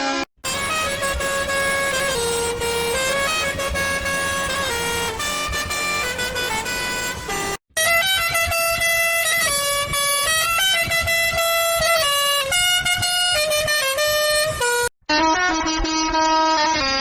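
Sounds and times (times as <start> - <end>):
musical bus horn tune: 0.0 - 17.0.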